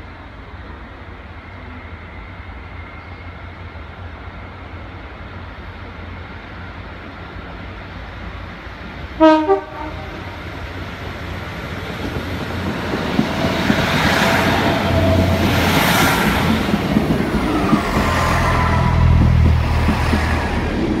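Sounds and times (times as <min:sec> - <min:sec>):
train wheels on rails: 0:00.1 - 0:21.0.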